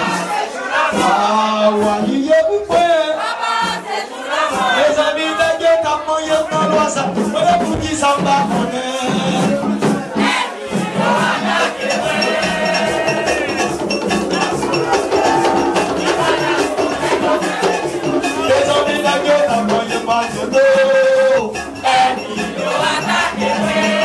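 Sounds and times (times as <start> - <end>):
steady percussion strokes: 0.0 - 24.0
voices singing together: 0.0 - 24.0.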